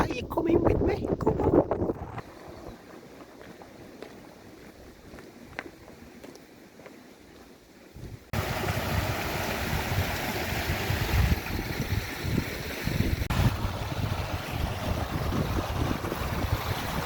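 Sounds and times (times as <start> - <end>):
wind buffeting microphone: 0.0 - 5.9, 7.9 - 17.0.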